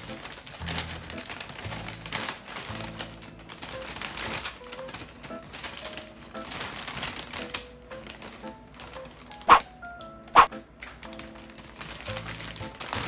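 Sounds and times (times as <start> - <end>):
light background music: 0.0 - 13.0
plastic bag crinkling: 0.0 - 13.0.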